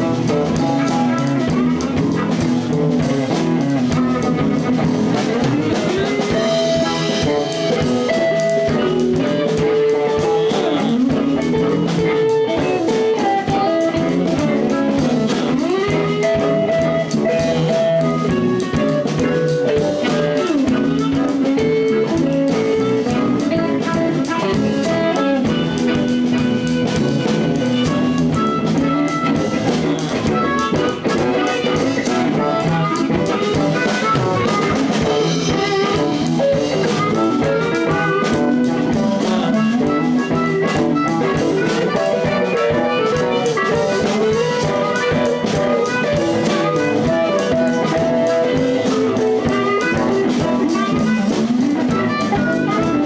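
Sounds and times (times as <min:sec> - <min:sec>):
bending electric guitar lead: 0:00.0 - 0:53.0
live blues band playing: 0:00.0 - 0:53.0.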